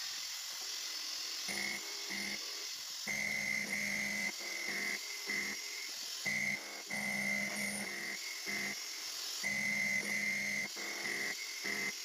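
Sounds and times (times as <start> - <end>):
milling machine hiss: 0.0 - 12.0
cutter whine: 1.4 - 12.0.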